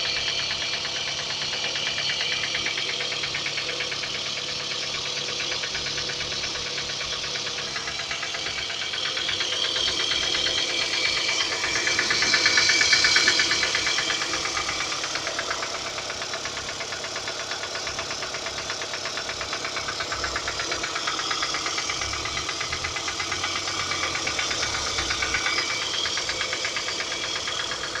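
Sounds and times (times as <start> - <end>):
car engine knocking: 0.0 - 28.0.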